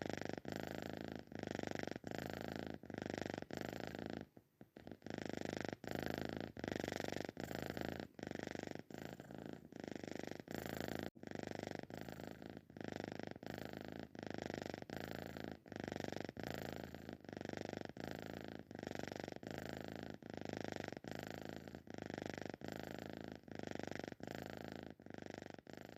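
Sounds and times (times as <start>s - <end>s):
cat snoring: 0.0s - 25.9s.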